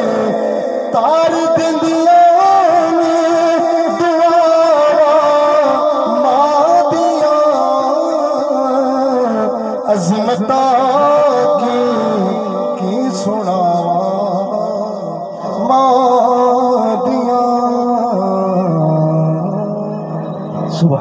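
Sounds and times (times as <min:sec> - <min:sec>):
man singing through loudspeakers: 0:00.0 - 0:21.0.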